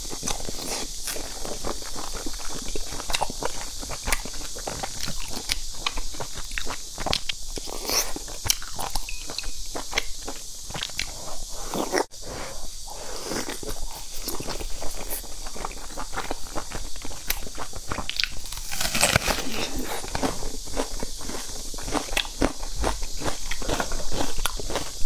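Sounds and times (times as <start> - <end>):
person chewing with wet smacks: 0.0 - 12.1, 13.3 - 18.5, 19.1 - 25.0.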